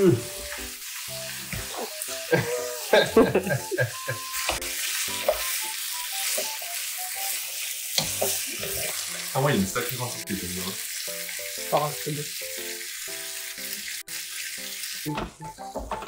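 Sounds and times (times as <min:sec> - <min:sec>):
chicken and onions sizzling in pan: 0:00.0 - 0:15.8.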